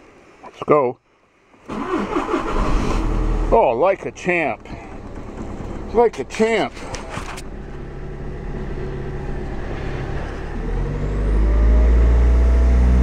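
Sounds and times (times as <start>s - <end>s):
diesel engine idling: 1.7s - 12.3s.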